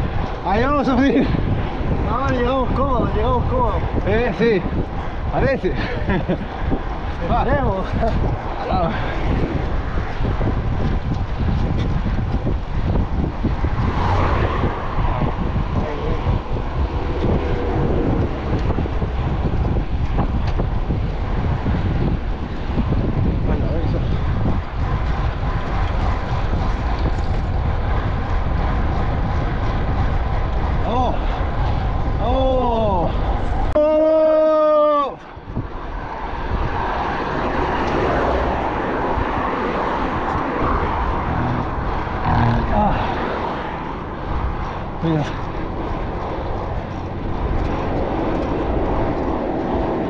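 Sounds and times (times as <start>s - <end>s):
low rumble: 0.0s - 34.6s, 35.2s - 50.0s
wind rushing over microphone: 0.0s - 50.0s.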